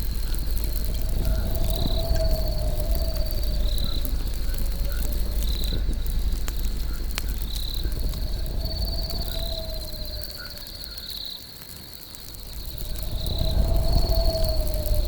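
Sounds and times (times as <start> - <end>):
low rumble: 0.0 - 11.0, 12.2 - 15.0
campfire crackling and popping: 0.0 - 15.0
crickets trilling: 0.0 - 15.0.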